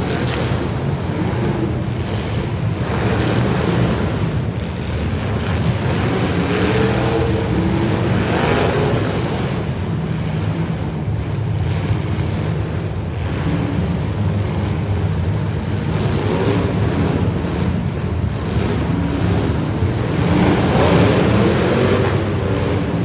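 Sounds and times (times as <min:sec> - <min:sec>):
car engines running rough: 0:00.0 - 0:23.0.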